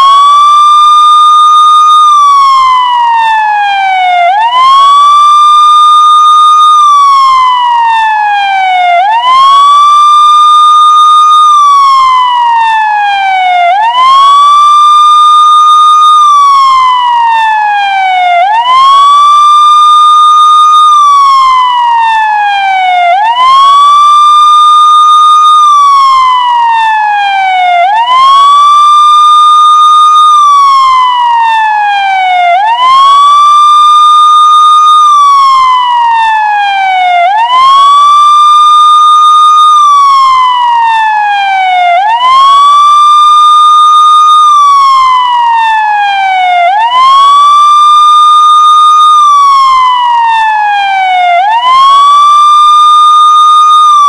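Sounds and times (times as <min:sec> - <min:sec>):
police siren wailing: 0:00.0 - 0:54.0.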